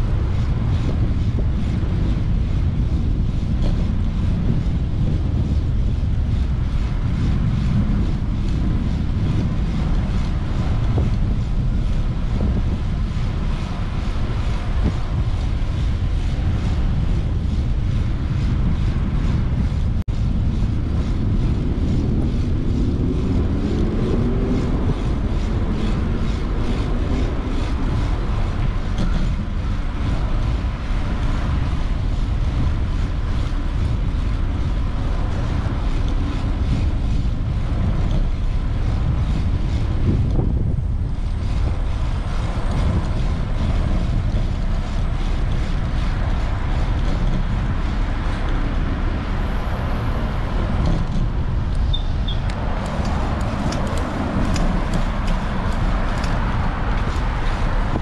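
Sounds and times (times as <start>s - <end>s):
city traffic: 0.0s - 58.0s
wind rumble on microphone: 0.0s - 58.0s.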